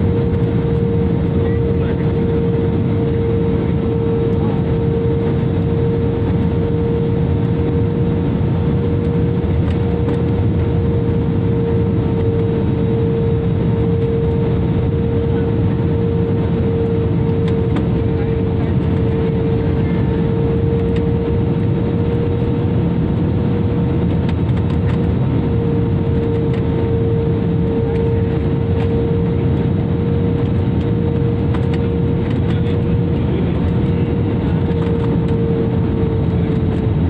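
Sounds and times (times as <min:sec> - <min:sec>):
jet engine roar: 0:00.0 - 0:37.0
steady droning tone: 0:00.0 - 0:37.0.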